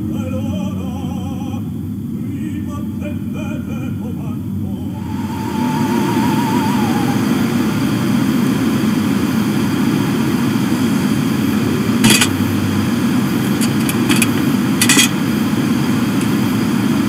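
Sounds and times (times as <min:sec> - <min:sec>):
car engine cabin drone: 0:00.0 - 0:17.0.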